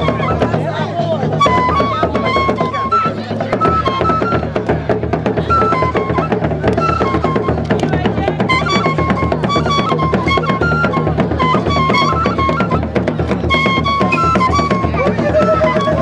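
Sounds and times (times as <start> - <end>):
drums in fast rhythm: 0.0 - 16.0
high melody: 0.0 - 16.0.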